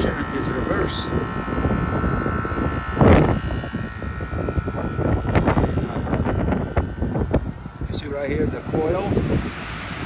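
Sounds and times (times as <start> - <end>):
heat pump compressor and fan running: 0.0 - 10.0
loud burst of noise: 0.0 - 10.0.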